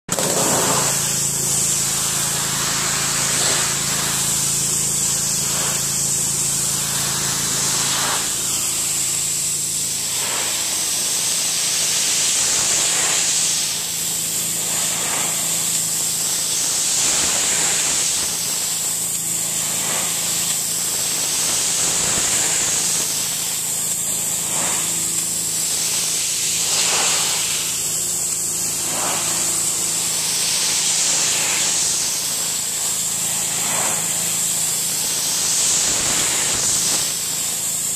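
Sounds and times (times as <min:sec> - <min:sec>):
pressure washer engine hum: 0:00.1 - 0:37.9
water spray hissing on wood: 0:00.2 - 0:37.9.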